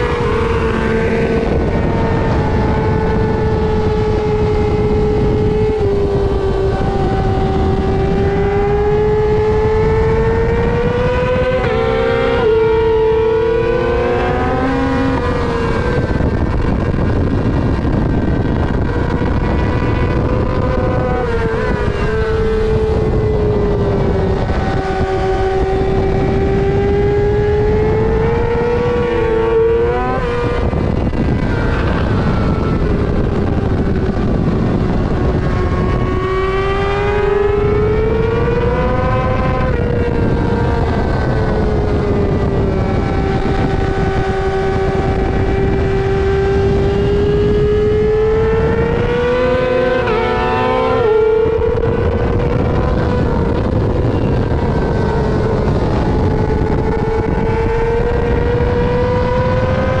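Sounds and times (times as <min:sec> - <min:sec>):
motorcycle engine at high revs: 0:00.0 - 1:00.0
wind noise: 0:00.0 - 1:00.0.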